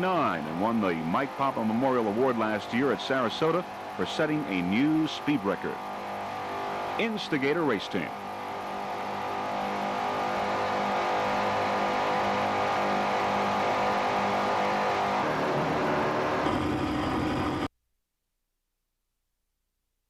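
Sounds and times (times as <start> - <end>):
powerboat engines droning: 0.0 - 17.7.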